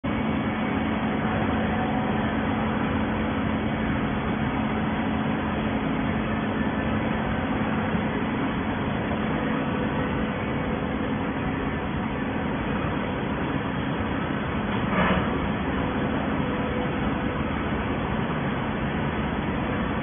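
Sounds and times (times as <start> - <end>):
baler machine running: 0.0 - 20.0
constant low hum: 0.0 - 20.0.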